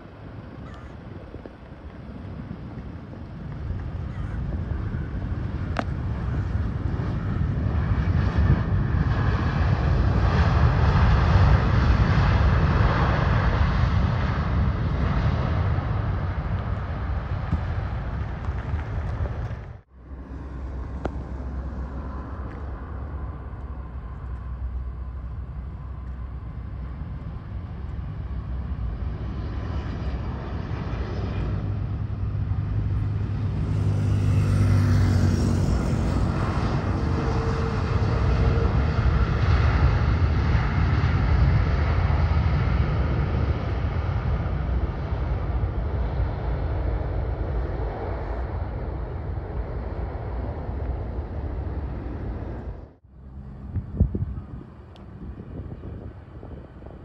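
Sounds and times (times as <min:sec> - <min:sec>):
jet airliner landing: 0:00.0 - 0:57.0.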